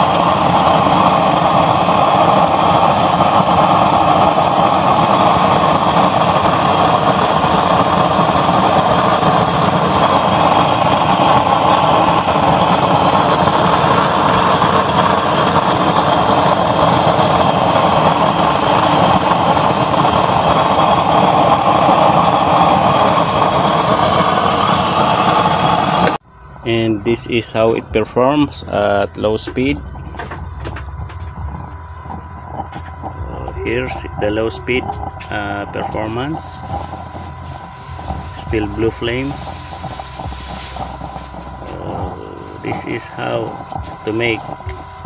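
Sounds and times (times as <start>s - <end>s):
burner flame and blower rushing: 0.0s - 45.0s
faint motor hum: 0.0s - 45.0s.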